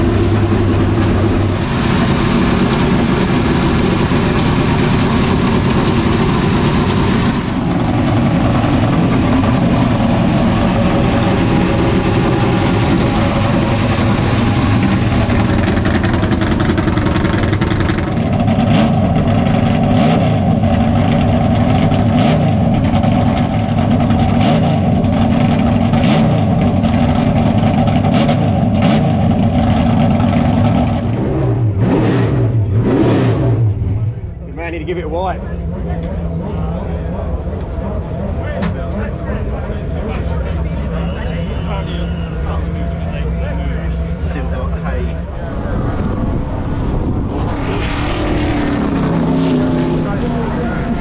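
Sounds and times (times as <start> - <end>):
car engines idling: 0.0 - 51.0.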